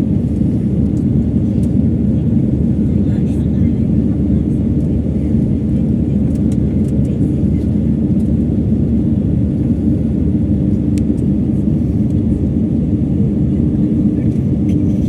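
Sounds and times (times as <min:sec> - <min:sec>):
jet cabin engine rumble: 0:00.0 - 0:15.0.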